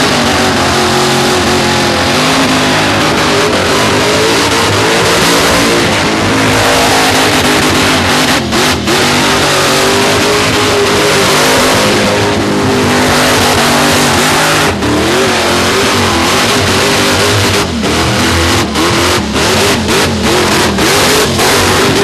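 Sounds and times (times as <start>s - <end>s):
supercharged engine revving: 0.0s - 22.0s.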